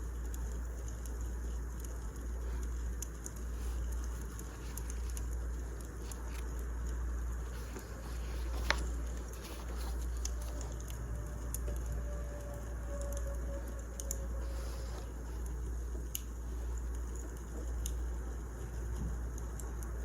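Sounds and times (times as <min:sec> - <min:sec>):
logs crackling and popping: 0:00.0 - 0:20.0
low rumble of flame: 0:00.0 - 0:20.0.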